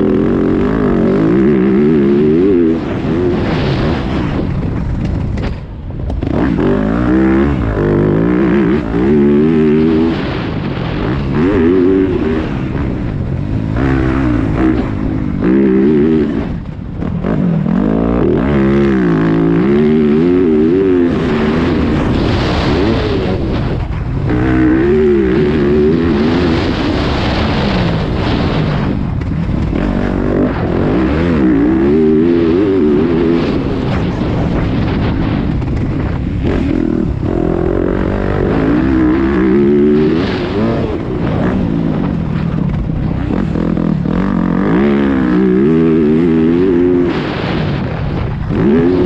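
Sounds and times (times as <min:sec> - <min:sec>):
motocross engine revving: 0:00.0 - 0:04.5, 0:06.2 - 0:49.0.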